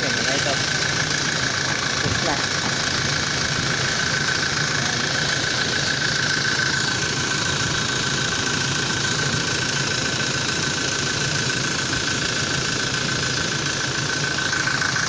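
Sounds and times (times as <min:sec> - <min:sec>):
diesel engine idling with whine: 0:00.0 - 0:15.0.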